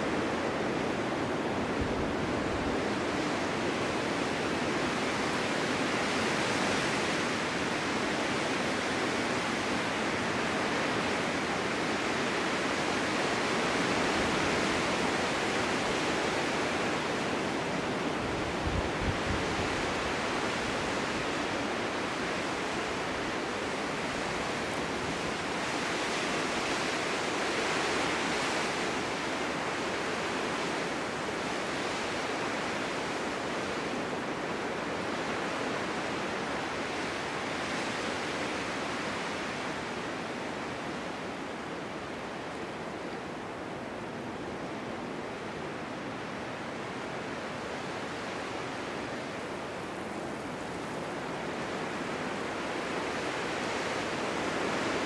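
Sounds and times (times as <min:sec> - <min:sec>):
snowstorm wind gusting: 0:00.0 - 0:55.0.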